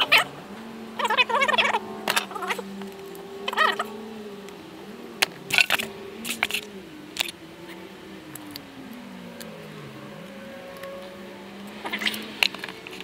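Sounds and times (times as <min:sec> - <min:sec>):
faint wavering hum: 0:00.0 - 0:13.0.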